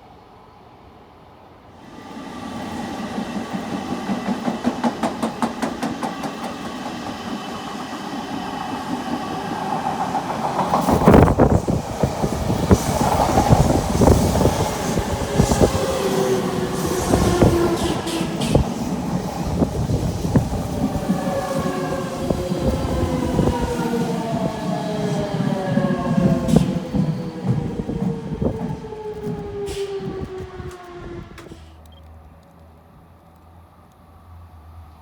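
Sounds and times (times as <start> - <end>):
electric train running past: 0.0 - 31.9
train rumble with steady whine: 0.0 - 31.9.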